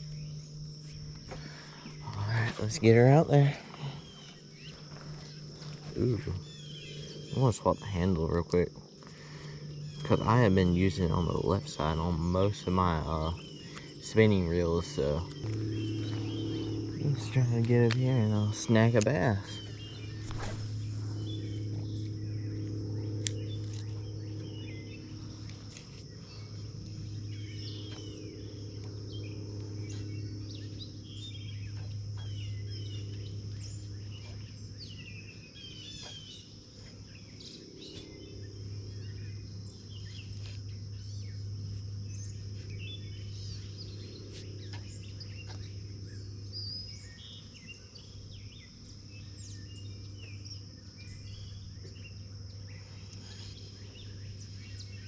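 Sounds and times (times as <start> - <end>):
bird chirps: 0.0 - 8.4, 9.0 - 55.0
high insect drone: 0.0 - 55.0
low hum: 0.0 - 55.0.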